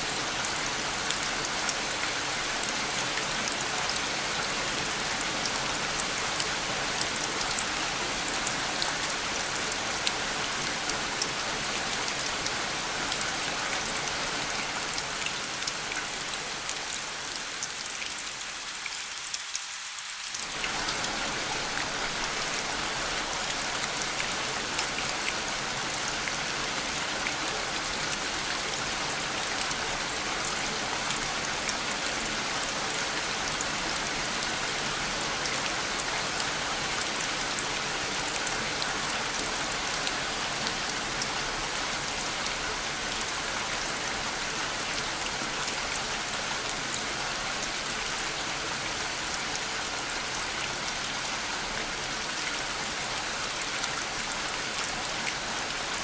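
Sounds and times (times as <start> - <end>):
rain falling: 0.0 - 56.0
raindrops ticking on a surface: 0.1 - 49.9.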